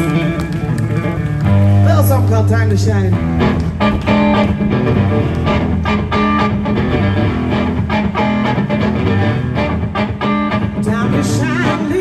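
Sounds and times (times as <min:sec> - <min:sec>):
blues band playing: 0:00.0 - 0:12.0
guitar picked notes: 0:00.0 - 0:12.0.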